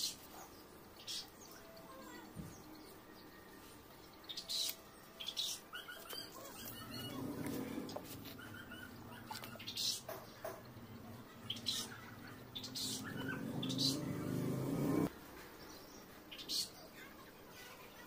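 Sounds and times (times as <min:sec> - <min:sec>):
caged birds chirping and squawking: 0:00.0 - 0:17.4
low steady background: 0:00.0 - 0:18.0.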